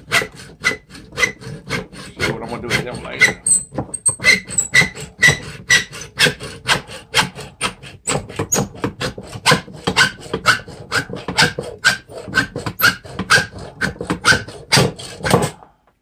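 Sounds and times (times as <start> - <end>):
hacksaw cutting wood: 0.0 - 15.7.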